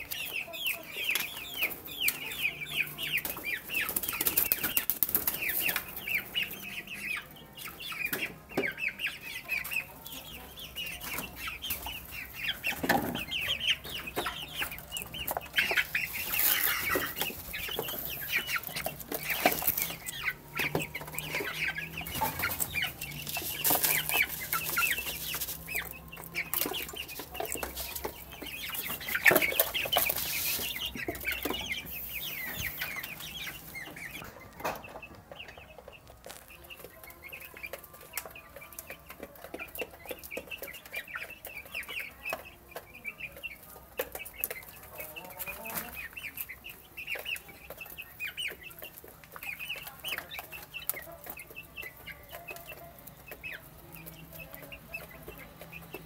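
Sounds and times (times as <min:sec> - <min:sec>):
chicks peeping: 0:00.0 - 0:56.0.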